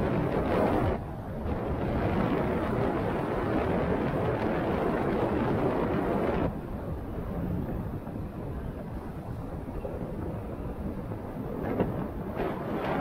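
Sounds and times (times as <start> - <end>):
bicycle tyre and trail noise: 0.0 - 13.0
wind over microphone: 0.0 - 13.0.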